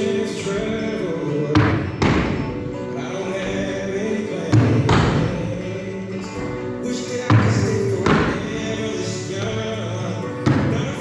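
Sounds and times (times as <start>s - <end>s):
heavy thuds: 0.0s - 11.0s
music with singing: 0.0s - 11.0s.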